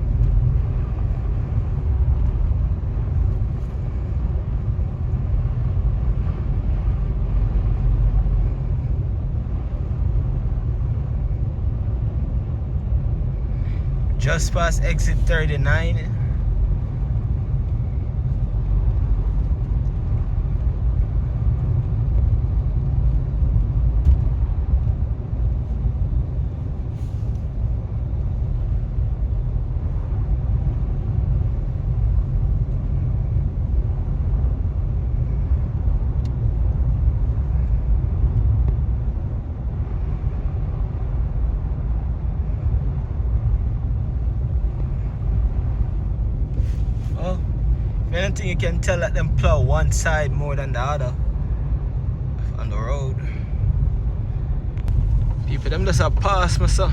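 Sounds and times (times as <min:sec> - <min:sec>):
car cabin rumble: 0:00.0 - 0:56.9.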